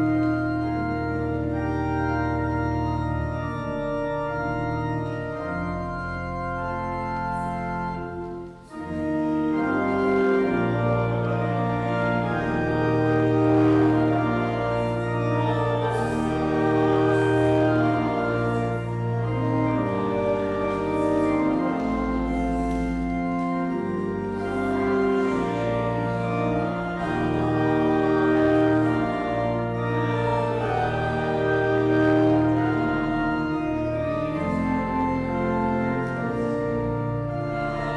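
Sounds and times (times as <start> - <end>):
organ playing slow chords: 0.0 - 37.9.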